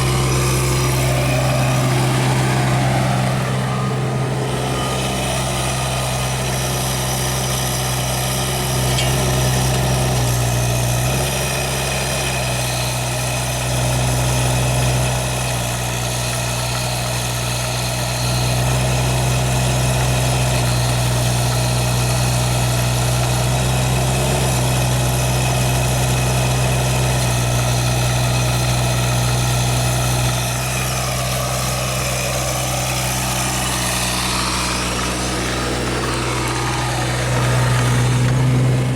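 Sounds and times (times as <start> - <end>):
mini excavator diesel engine: 0.0 - 38.9.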